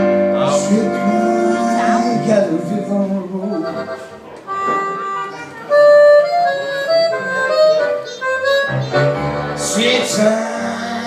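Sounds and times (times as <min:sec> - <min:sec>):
harmonica bending held notes: 0:00.0 - 0:11.0
live blues band: 0:00.0 - 0:11.0.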